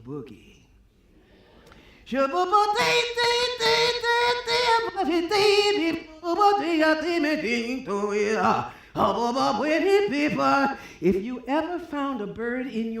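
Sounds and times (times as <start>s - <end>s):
woman singing without words: 2.1s - 13.0s.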